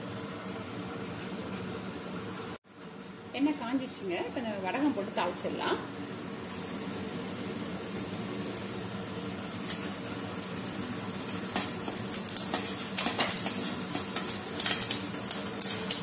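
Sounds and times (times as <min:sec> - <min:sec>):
seeds sizzling in hot oil: 0:03.0 - 0:16.0.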